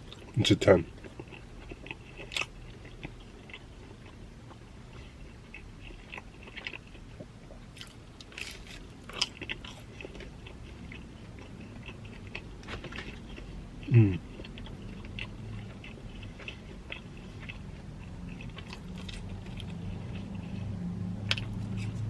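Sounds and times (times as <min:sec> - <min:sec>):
person chewing pizza: 0:00.0 - 0:22.0.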